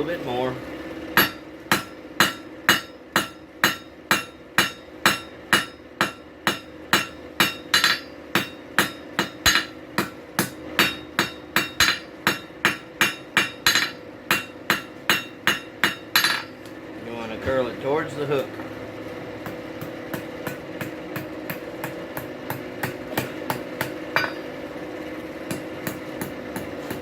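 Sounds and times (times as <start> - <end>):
steady hum: 0.0 - 27.0
hammer striking steel on anvil: 1.2 - 16.6, 19.4 - 24.6, 25.5 - 27.0.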